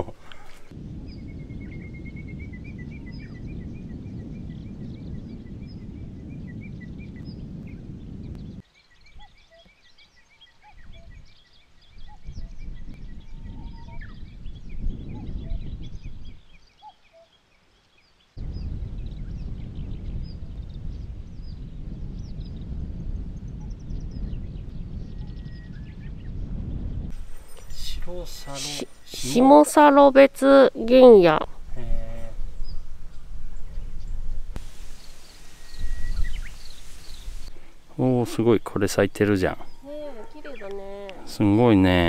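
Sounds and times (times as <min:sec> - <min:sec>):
wind rumbling on microphone: 0:00.0 - 0:09.6, 0:10.6 - 0:16.8, 0:18.4 - 0:42.0
small birds chirping and trilling: 0:00.0 - 0:42.0.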